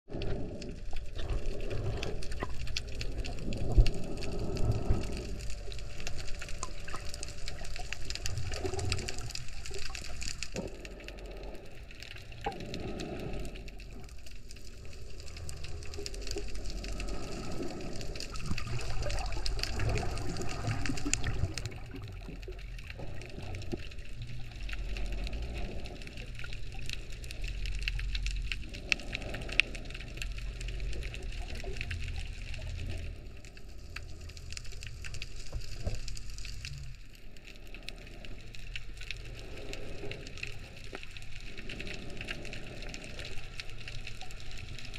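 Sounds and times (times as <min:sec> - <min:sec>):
faint crackling: 0:00.1 - 0:44.9
muffled underwater rumble: 0:00.1 - 0:44.9.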